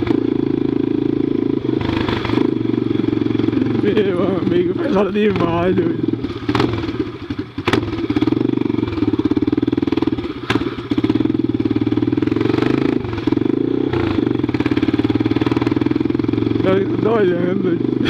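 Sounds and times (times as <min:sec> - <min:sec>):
motorcycle engine through open exhaust: 0:00.0 - 0:18.0.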